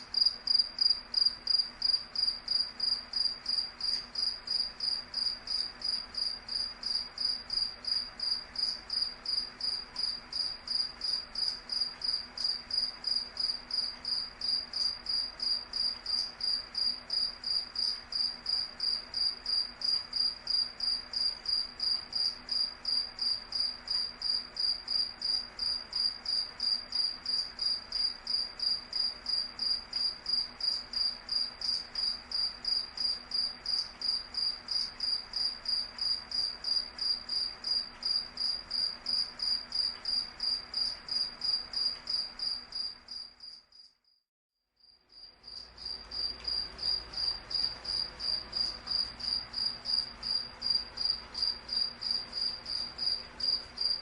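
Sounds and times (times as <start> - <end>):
cricket chirping: 0.0 - 44.2, 44.8 - 54.0.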